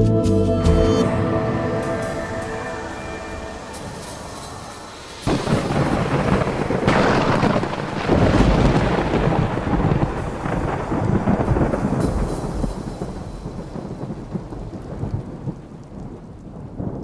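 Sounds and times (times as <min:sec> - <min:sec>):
heavy rain: 0:01.0 - 0:17.0
thunder: 0:01.0 - 0:17.0.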